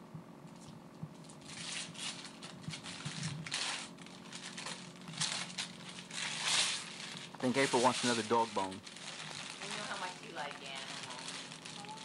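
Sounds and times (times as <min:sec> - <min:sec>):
wrapping paper crinkling: 0:00.5 - 0:12.0.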